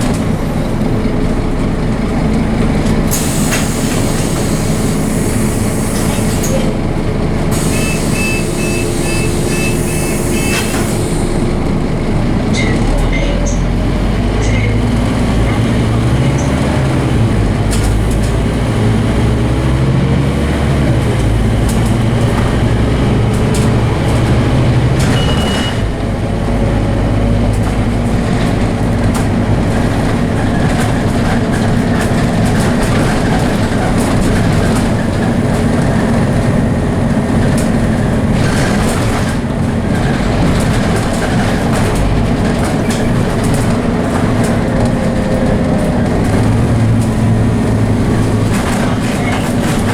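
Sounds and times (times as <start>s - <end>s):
bus body rattling: 0.0s - 49.9s
bus diesel engine running hard: 0.0s - 49.9s.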